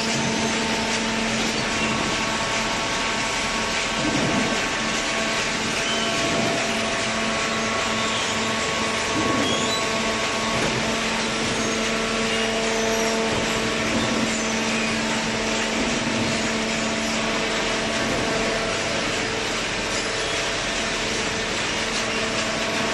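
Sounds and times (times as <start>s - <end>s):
constant hum: 0.0s - 22.9s
hydraulic baler running: 0.0s - 22.9s.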